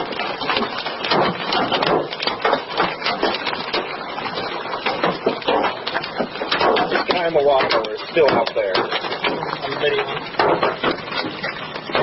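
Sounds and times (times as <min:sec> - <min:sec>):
hailstones pelting hard surfaces: 0:00.0 - 0:12.0.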